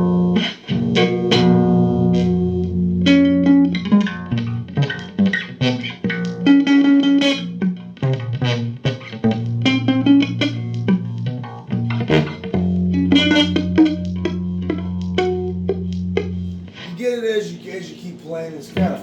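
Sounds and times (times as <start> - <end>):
held low bass notes: 0.0 - 6.7, 7.3 - 16.9
plucked guitar notes: 0.0 - 19.0.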